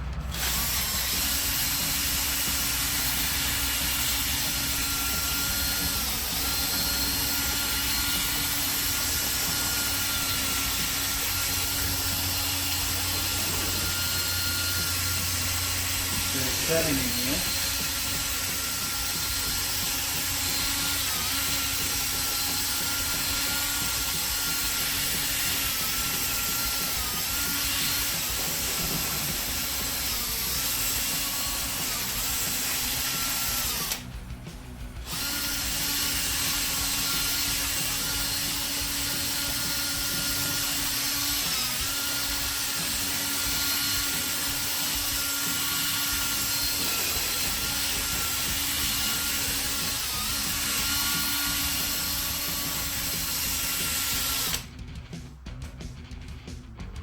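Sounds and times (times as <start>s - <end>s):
power drill sanding plastic: 0.0s - 34.2s, 34.9s - 54.8s.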